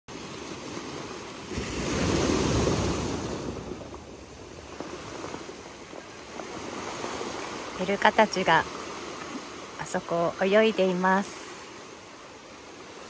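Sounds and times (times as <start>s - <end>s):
waves breaking on stones: 0.1s - 13.0s.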